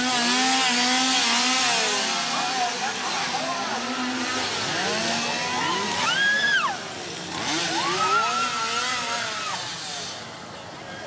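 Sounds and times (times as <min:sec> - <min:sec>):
chainsaws revving: 0:00.0 - 0:10.3.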